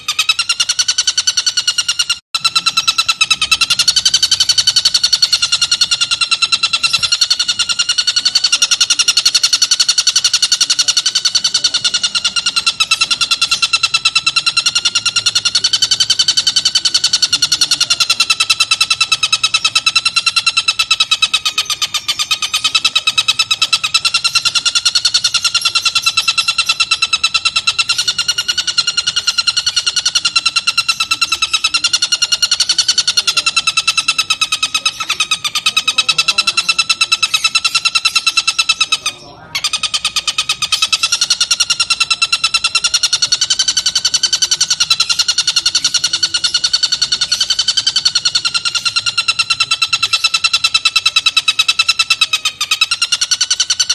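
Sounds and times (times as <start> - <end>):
bird cackling chatter: 0.0 - 53.9.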